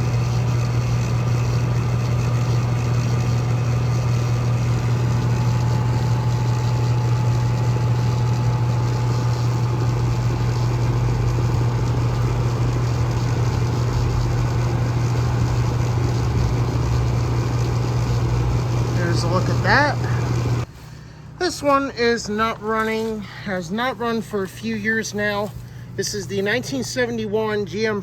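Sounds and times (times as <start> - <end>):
air conditioner unit humming: 0.0 - 28.0.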